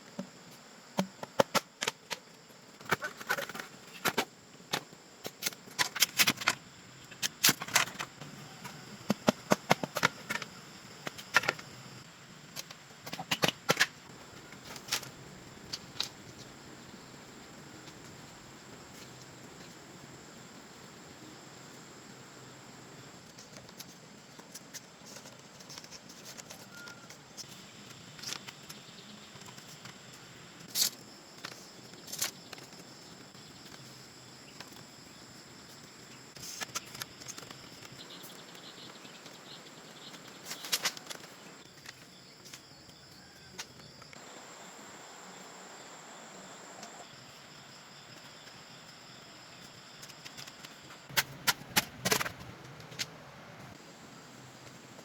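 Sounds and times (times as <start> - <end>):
insect buzz: 0.0 - 51.2.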